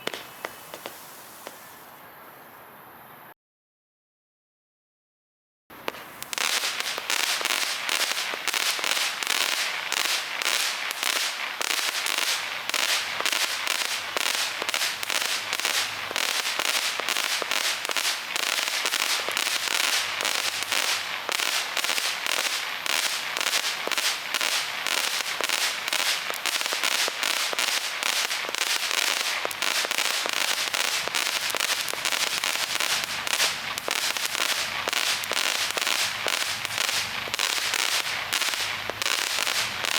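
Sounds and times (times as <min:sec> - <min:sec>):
fireworks crackling: 0:00.0 - 0:02.0, 0:05.7 - 0:39.9.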